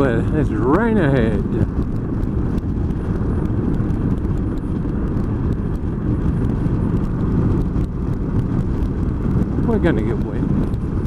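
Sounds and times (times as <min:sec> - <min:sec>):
motorcycle engine drone: 0:00.0 - 0:11.0
wind rushing over microphone: 0:00.0 - 0:11.0.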